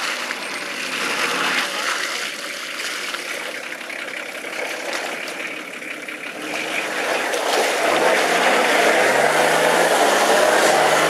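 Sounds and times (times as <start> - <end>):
rough engine running: 0.0 - 11.0.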